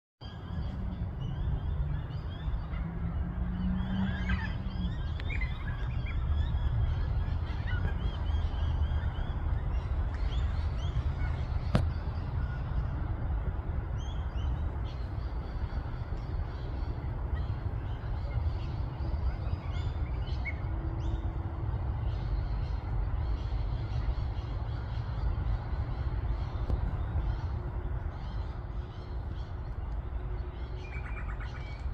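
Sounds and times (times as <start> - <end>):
wild birds chirping and calling: 0.2 - 13.0, 14.0 - 31.9
steady low rumble: 0.3 - 31.9.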